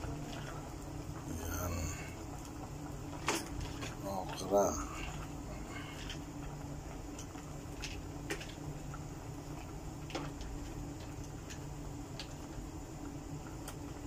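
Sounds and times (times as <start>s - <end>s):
pot boiling on gas stove: 0.0s - 14.0s.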